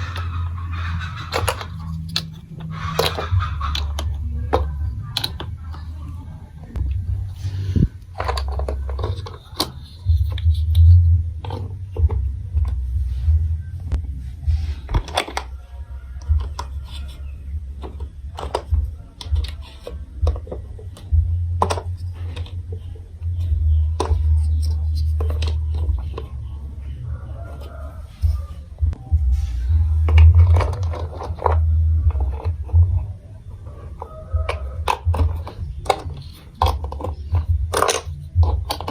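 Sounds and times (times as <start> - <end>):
plastic blocks clicking and knocking: 0.0 - 13.0, 14.6 - 29.0, 29.6 - 38.9
low rumble: 0.0 - 38.9.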